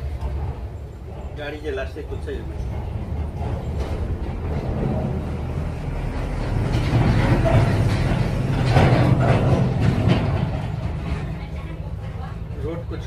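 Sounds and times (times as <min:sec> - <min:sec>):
passing vehicle engine rumble: 0:00.0 - 0:13.0.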